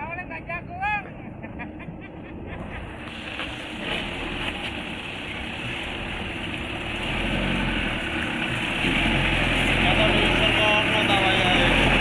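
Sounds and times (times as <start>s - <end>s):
truck engine running: 1.7s - 12.0s.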